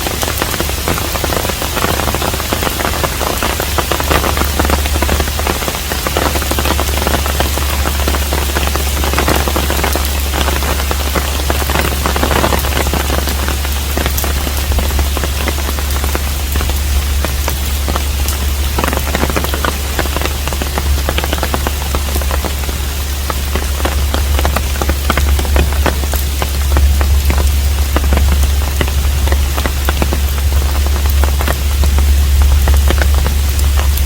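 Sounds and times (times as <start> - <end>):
constant low rumble: 0.0 - 34.0
rain patter on roof: 0.0 - 34.0.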